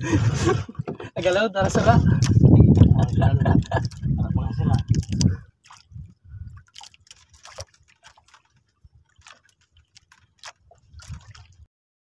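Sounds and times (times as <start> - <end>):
water sloshing and dripping: 1.8 - 11.7.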